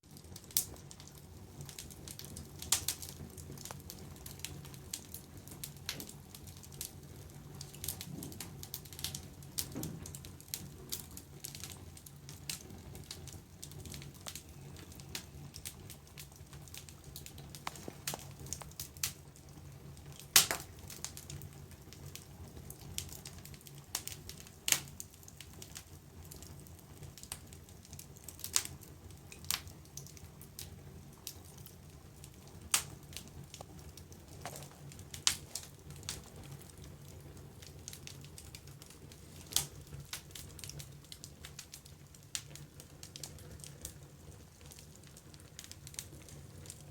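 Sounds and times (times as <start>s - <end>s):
low fire rumble: 0.0s - 46.9s
wood fire crackling: 0.0s - 46.9s.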